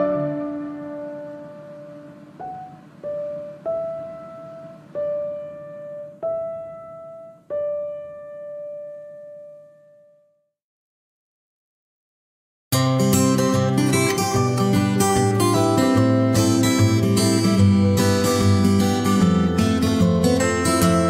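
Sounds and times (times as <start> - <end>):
slow piano notes: 0.0 - 10.4, 12.8 - 21.0.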